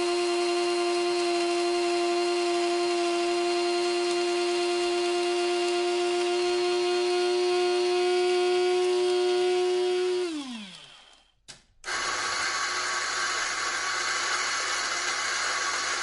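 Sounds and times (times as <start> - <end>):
coffee grinder motor whining: 0.0 - 16.0.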